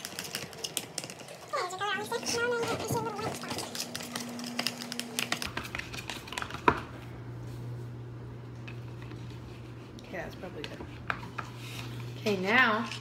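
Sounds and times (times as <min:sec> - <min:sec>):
utensil stirring slime in cup: 0:00.0 - 0:06.9, 0:08.5 - 0:13.0
steady low hum: 0:00.0 - 0:13.0.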